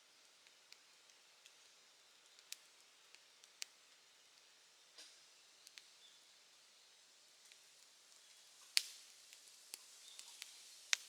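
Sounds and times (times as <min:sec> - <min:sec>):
soft steady hiss: 0:00.0 - 0:11.0.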